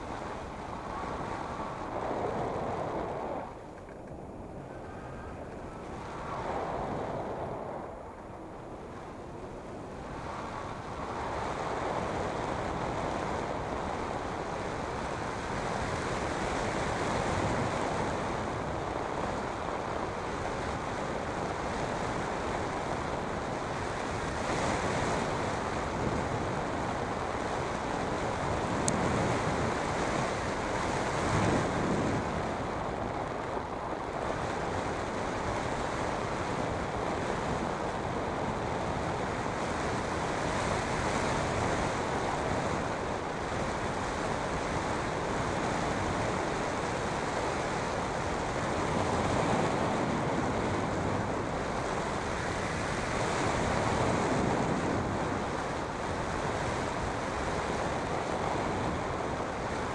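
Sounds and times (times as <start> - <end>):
wind buffeting the microphone: 0.0 - 59.9.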